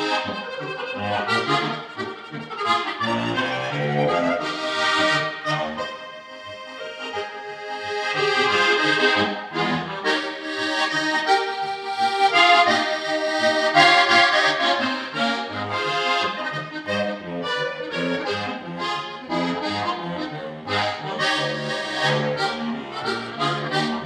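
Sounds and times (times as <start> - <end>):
button accordion playing solo: 0.0 - 24.0.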